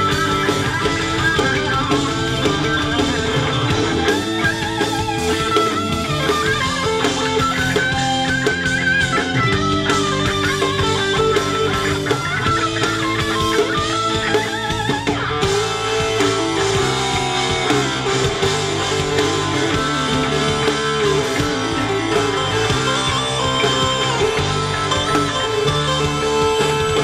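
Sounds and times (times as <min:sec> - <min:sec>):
bending guitar lead line: 0:00.0 - 0:27.0
electric guitars: 0:00.0 - 0:27.0
live rock band playing: 0:00.0 - 0:27.0.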